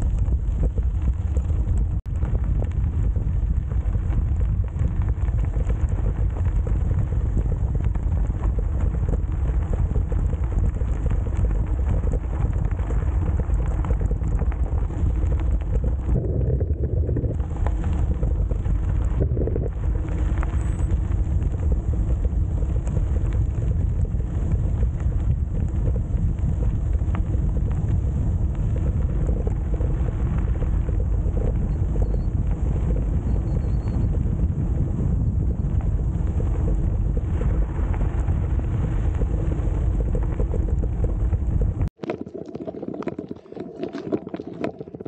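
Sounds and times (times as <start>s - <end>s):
bicycle tyre and road noise: 0.0s - 45.0s
wind rumble on microphone: 0.0s - 45.0s.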